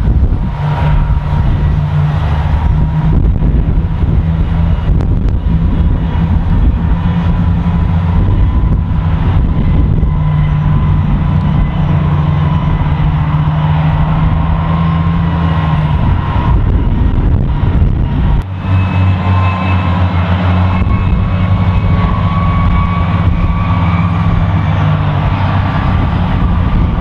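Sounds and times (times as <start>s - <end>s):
faint whine: 0.0s - 27.0s
tractor engines humming: 0.0s - 27.0s.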